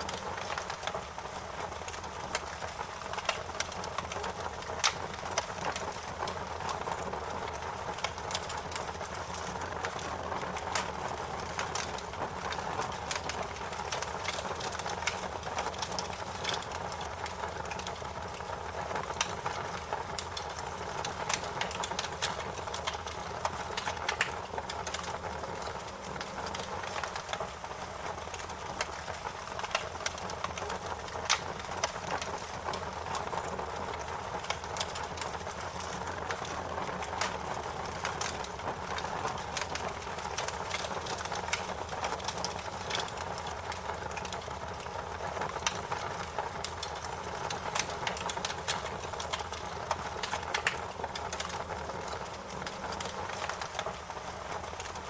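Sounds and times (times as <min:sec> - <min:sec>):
crackles and pops of burning wood: 0:00.0 - 0:55.0
wood fire burning: 0:00.0 - 0:55.0.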